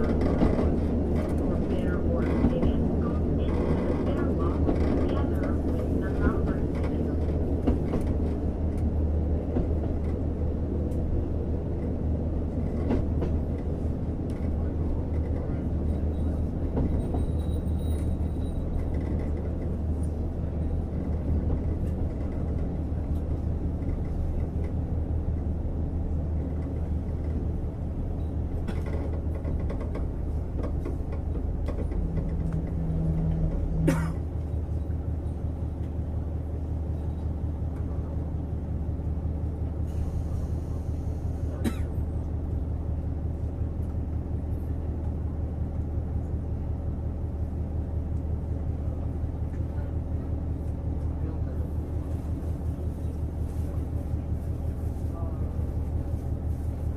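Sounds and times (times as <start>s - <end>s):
diesel engine drone: 0.0s - 16.3s, 22.9s - 53.8s
train wheels on rail: 0.0s - 56.9s.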